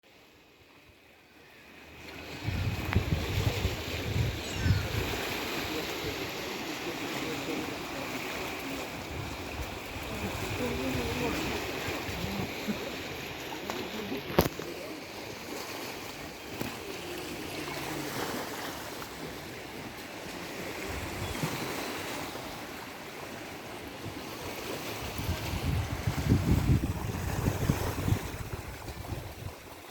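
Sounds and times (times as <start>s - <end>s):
waves washing onto beach: 0.1s - 29.9s.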